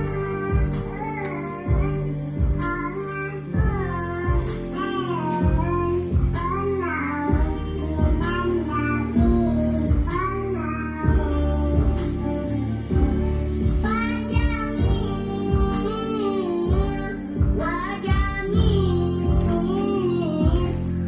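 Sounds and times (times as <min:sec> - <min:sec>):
steady beat: 0:00.0 - 0:21.0
sung melody: 0:00.0 - 0:21.0.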